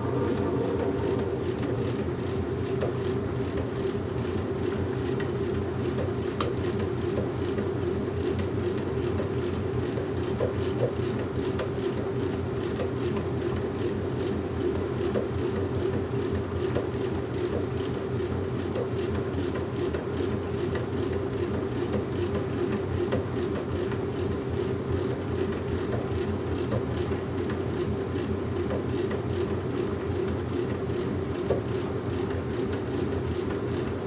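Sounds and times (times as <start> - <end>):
washing machine running: 0.0 - 34.0.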